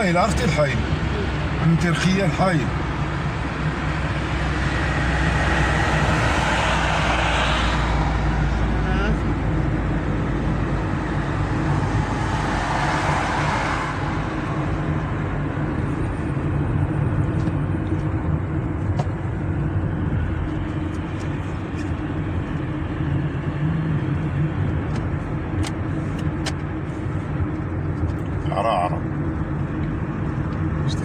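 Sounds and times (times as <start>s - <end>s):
car engine hum: 0.0s - 31.0s
road noise: 0.0s - 31.0s.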